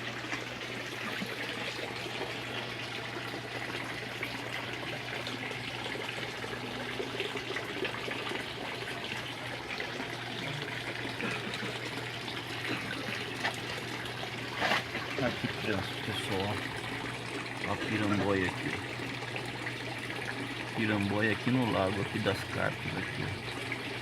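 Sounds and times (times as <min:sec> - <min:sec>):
trickle of running water: 0:00.0 - 0:24.0.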